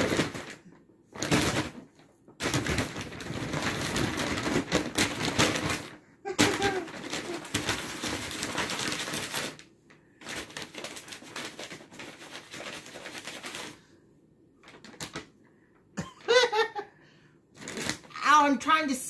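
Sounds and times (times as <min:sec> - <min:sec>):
paper bag crackling and rustling: 0:00.0 - 0:13.9, 0:14.6 - 0:15.4, 0:17.6 - 0:18.2.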